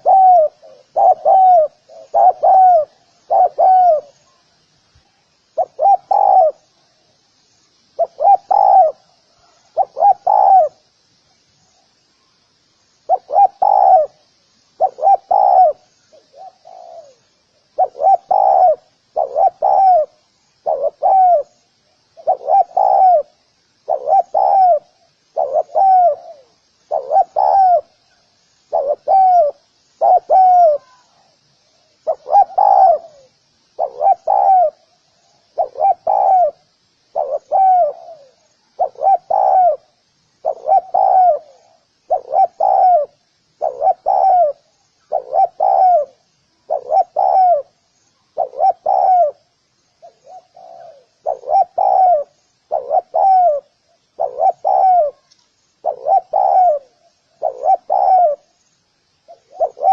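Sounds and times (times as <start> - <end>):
dove cooing: 0.0 - 4.4, 5.6 - 6.7, 8.0 - 10.8, 13.1 - 14.2, 14.8 - 21.6, 22.2 - 31.3, 32.0 - 58.5, 59.3 - 59.9
small birds chirping faintly: 0.0 - 59.9.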